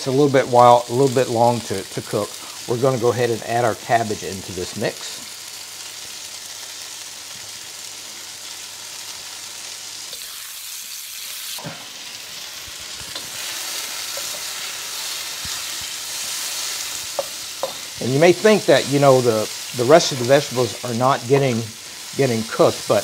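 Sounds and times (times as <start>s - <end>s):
vegetables sizzling in a wok: 0.0s - 23.0s.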